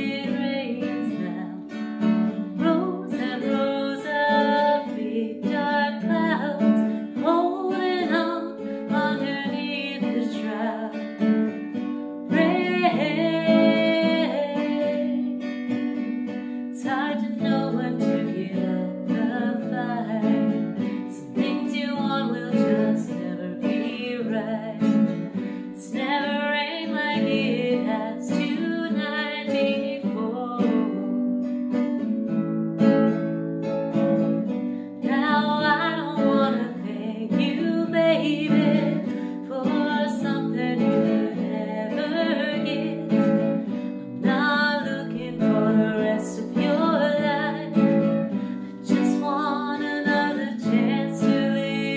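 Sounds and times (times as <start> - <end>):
woman singing: 0.0 - 33.2, 33.9 - 51.9
classical guitar: 0.0 - 51.9.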